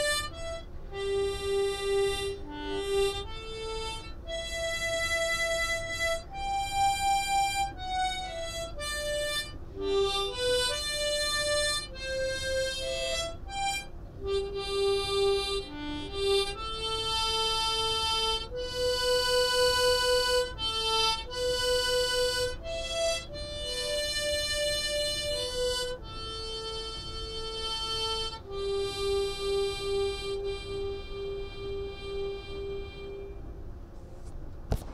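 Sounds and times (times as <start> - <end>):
harmonica slow melody: 0.0 - 33.6.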